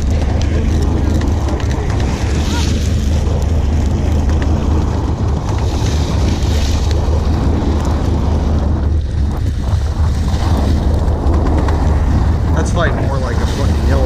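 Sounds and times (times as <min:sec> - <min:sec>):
boat engine droning: 0:00.0 - 0:14.0
water washing: 0:00.0 - 0:14.0
wind buffeting microphone: 0:00.0 - 0:14.0.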